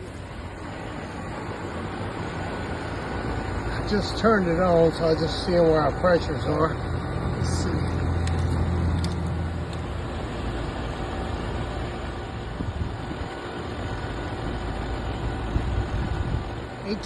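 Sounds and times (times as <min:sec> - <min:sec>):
air conditioner fan whoosh: 0:00.0 - 0:17.0.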